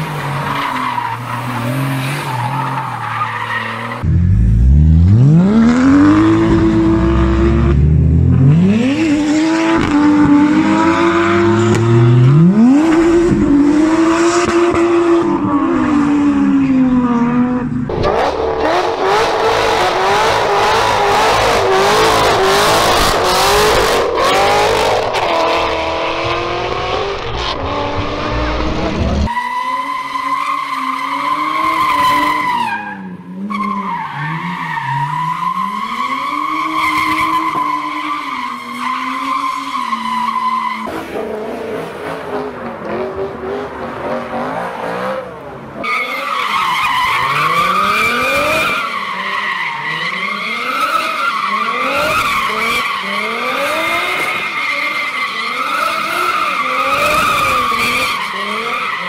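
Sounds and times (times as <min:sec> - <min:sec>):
engines revving: 0:00.0 - 0:29.3, 0:40.8 - 0:59.0.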